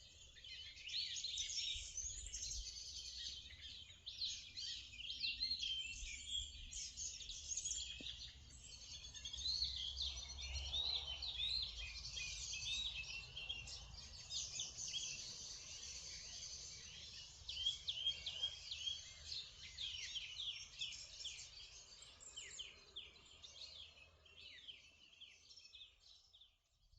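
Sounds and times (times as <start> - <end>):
birds singing and chirping: 0.0 - 26.6.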